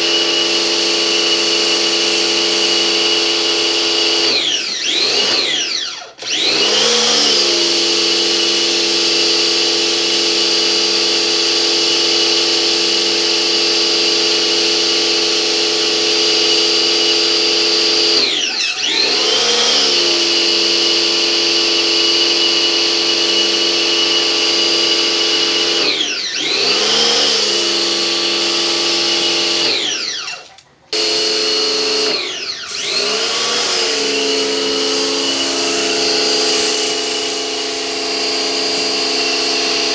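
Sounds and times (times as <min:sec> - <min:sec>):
pressure washer motor whine: 0:00.0 - 0:39.9.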